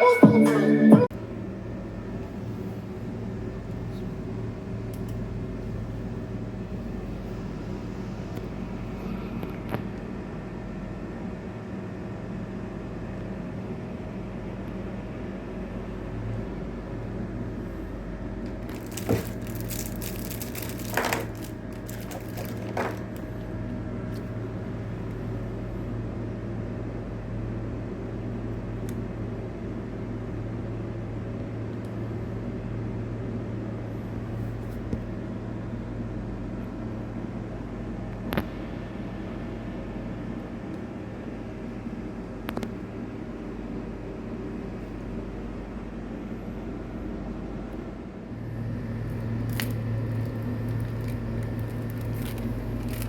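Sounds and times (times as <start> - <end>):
low mechanical hum: 0.0 - 53.0.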